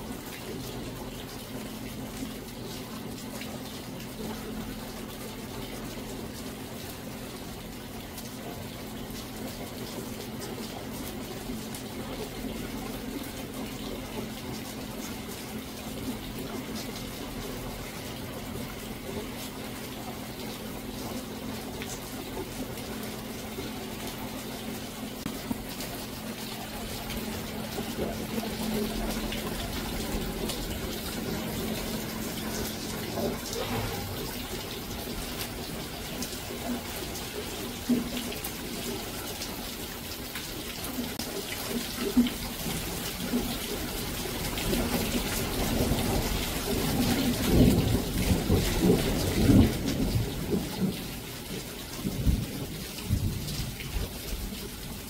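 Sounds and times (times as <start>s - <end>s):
rain falling: 0.0s - 55.0s
running splashing water: 0.0s - 55.0s.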